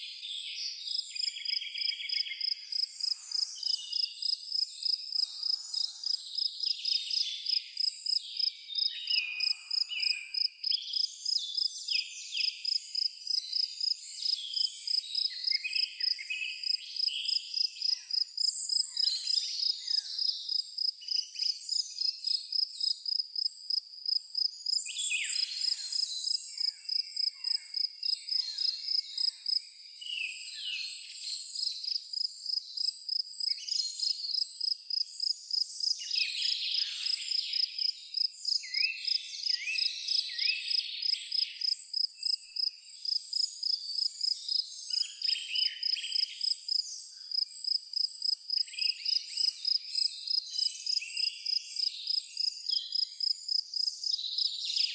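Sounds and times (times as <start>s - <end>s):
birds singing whistles and trills: 0.0s - 23.1s, 24.4s - 54.9s
cricket chirping: 0.9s - 11.7s, 12.4s - 30.0s, 31.6s - 54.9s.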